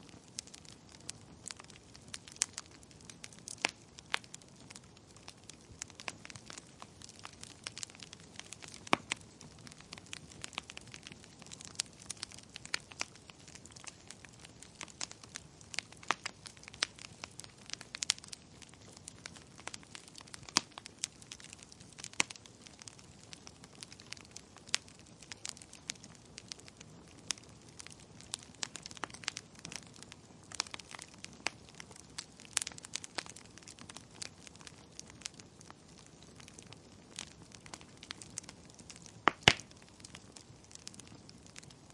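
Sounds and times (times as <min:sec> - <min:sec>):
soft steady hiss: 0:00.0 - 0:41.9
wood fire crackling: 0:00.0 - 0:41.9.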